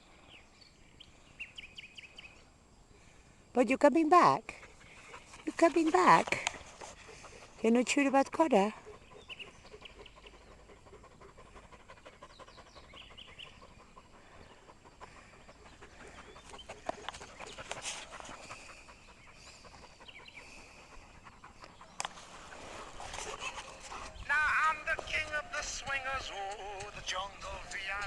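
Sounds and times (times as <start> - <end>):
dog panting: 4.4 - 28.0.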